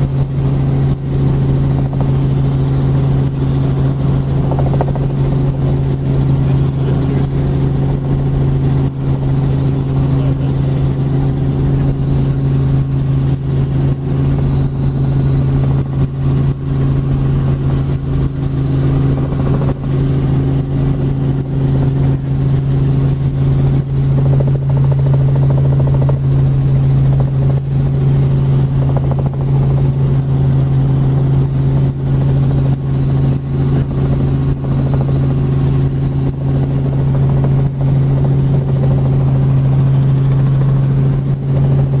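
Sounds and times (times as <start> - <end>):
helicopter drone: 0.0 - 42.0.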